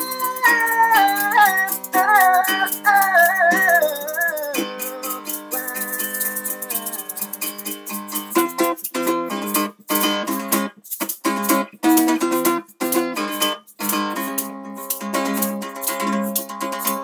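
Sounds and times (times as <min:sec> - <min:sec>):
acoustic guitar strumming: 0:00.0 - 0:17.0
maraca shaking: 0:00.0 - 0:17.0.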